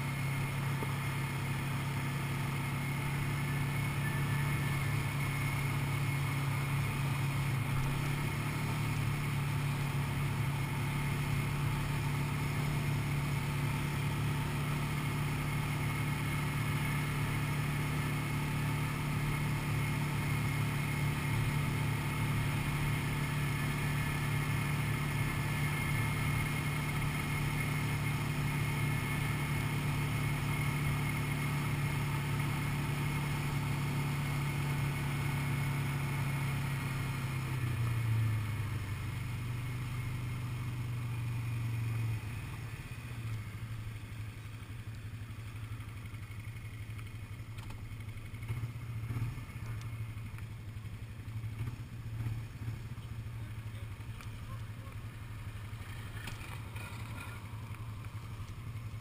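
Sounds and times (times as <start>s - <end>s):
quad bike engine droning: 0.0s - 59.0s.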